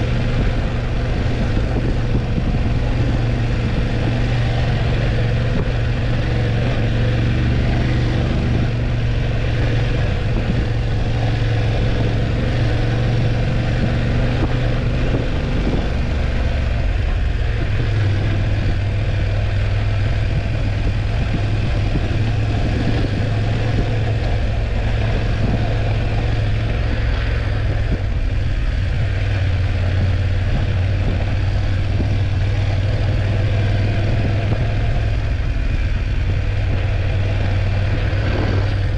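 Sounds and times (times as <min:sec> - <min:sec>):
motorcycle engine running: 0:00.0 - 0:38.9
road noise: 0:00.0 - 0:38.9
wind noise: 0:00.0 - 0:38.9.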